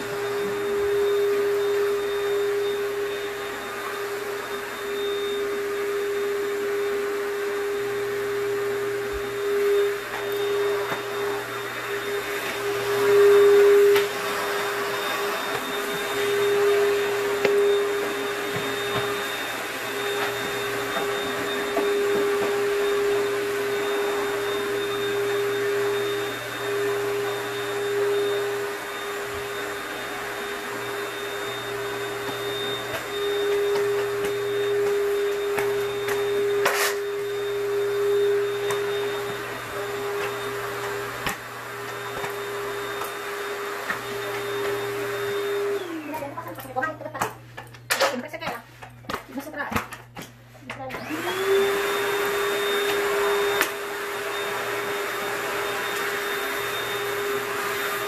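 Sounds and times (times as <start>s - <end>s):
vacuum cleaner motor humming: 0.0s - 58.0s.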